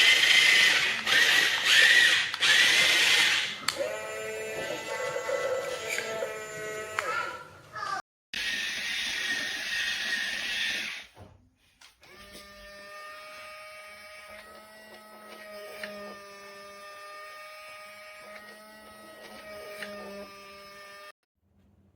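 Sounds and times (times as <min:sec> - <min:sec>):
small gear motors whining: 0:00.0 - 0:07.4, 0:08.4 - 0:11.1, 0:12.0 - 0:21.2.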